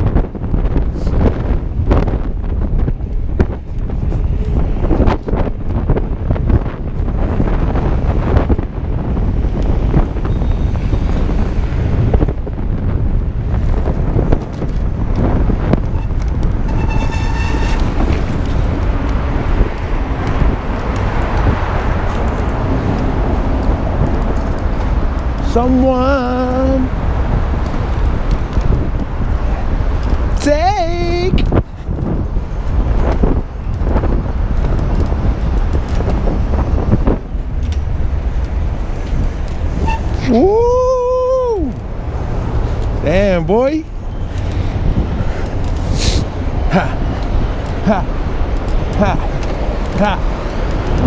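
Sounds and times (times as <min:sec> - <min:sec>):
road traffic: 0:00.0 - 0:51.0
wind noise on microphone: 0:00.0 - 0:51.0.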